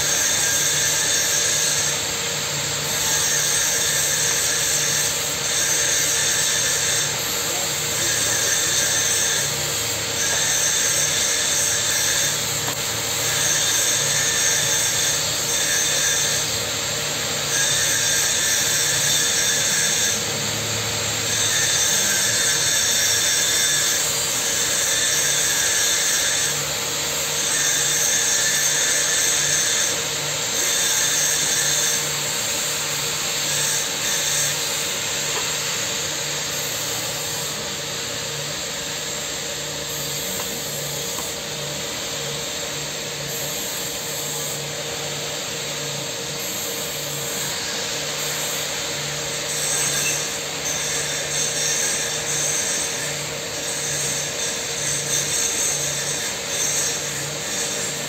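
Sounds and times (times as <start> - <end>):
power tool hiss and hum: 0.0 - 58.0.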